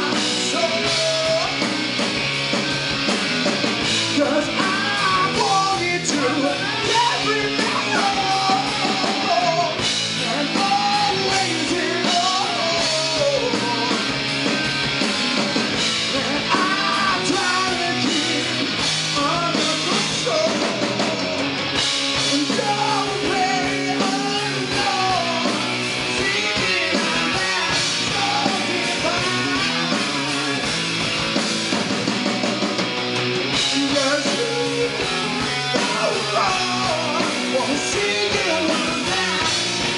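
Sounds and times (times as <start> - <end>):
man singing: 0.0 - 1.8, 4.0 - 14.2, 16.0 - 30.8, 33.5 - 39.9
bass guitar: 0.0 - 39.9
drums: 0.0 - 39.9
electric guitar: 0.0 - 39.9.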